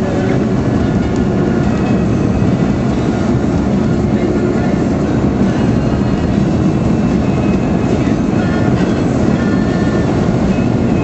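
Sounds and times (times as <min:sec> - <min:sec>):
car rumble on snowy road: 0:00.0 - 0:11.0.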